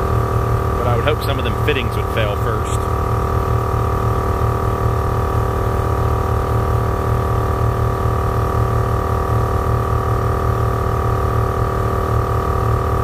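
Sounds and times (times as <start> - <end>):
air compressor whining and humming: 0.0 - 13.0.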